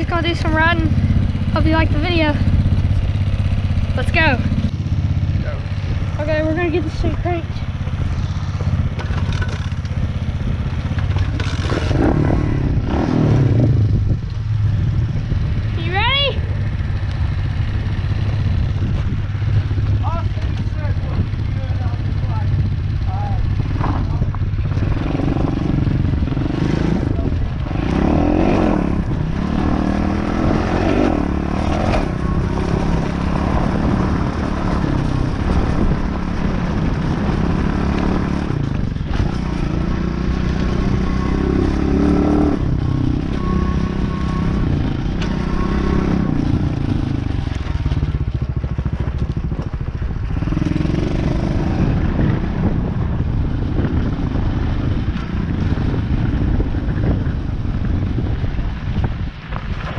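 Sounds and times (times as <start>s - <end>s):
off-road vehicle engine revving: 0.0s - 57.3s.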